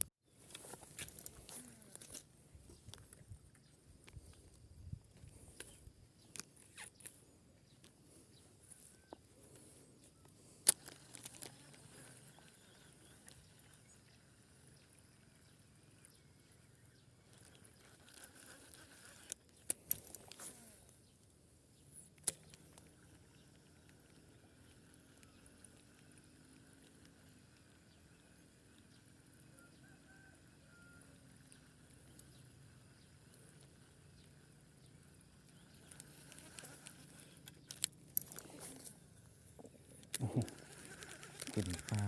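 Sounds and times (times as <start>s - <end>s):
faint outdoor background: 0.0s - 42.0s.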